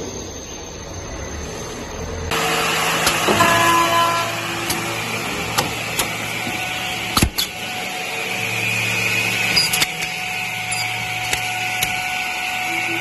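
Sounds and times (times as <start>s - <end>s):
machine drone and hum: 0.0s - 13.0s.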